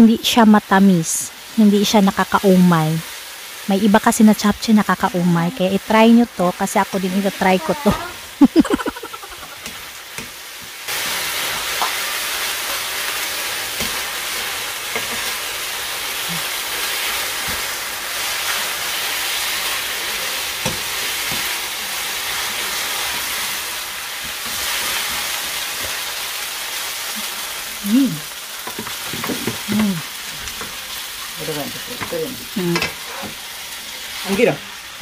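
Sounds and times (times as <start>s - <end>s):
food sizzling in a wok: 0.0s - 35.0s.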